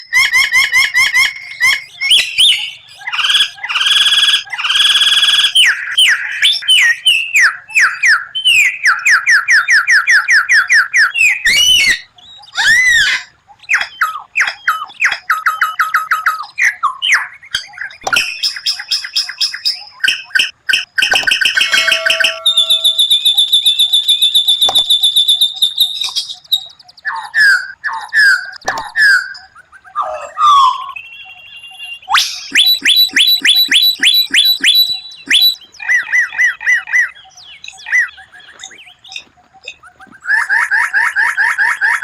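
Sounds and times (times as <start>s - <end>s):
songbird singing varied song: 0.0s - 42.0s.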